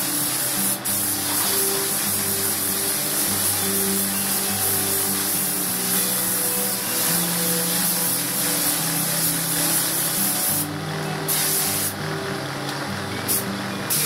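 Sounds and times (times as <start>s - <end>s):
paint spray gun hissing: 0.0s - 12.0s, 13.3s - 14.0s.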